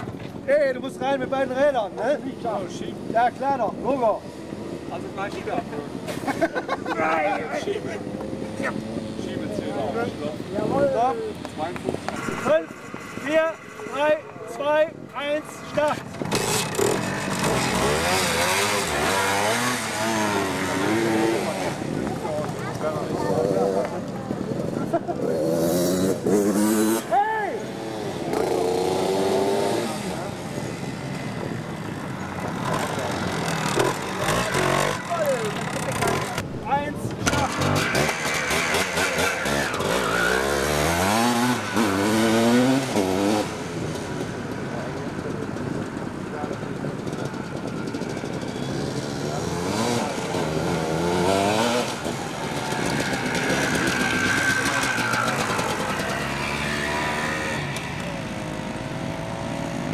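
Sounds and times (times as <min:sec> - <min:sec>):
motorcycle accelerating: 0:00.0 - 0:59.9.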